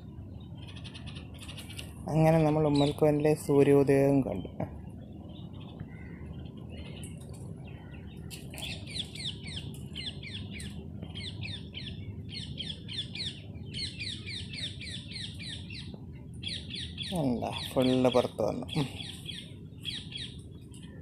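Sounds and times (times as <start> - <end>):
low steady background rumble: 0.0 - 21.0
small birds chirping: 0.0 - 21.0.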